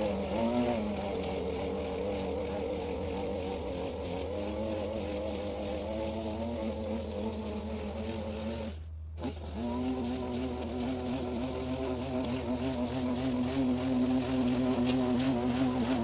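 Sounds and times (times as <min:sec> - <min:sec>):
string trimmer engine running: 0:00.0 - 0:16.0.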